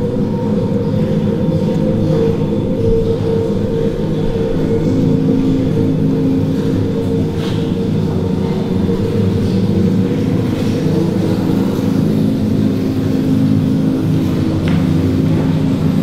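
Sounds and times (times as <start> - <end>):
low drone of held tones: 0.0 - 16.0.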